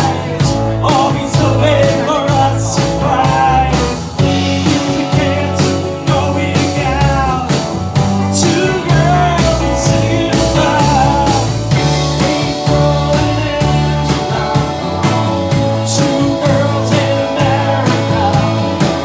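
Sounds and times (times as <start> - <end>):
drum beat: 0.0 - 19.0
live rock band playing: 0.0 - 19.0
strummed guitar: 0.0 - 19.0.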